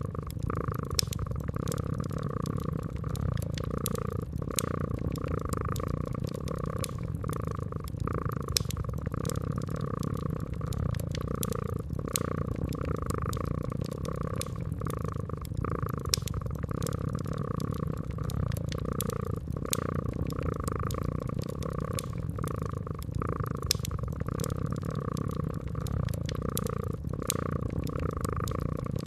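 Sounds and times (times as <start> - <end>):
cat purring: 0.0 - 29.0
wood fire crackling and snapping: 0.0 - 29.0.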